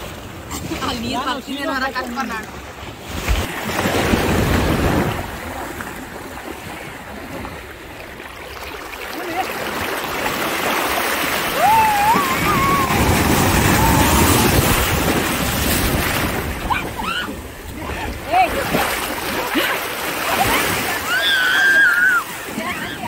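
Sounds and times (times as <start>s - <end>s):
waves breaking on beach: 0.0s - 23.0s.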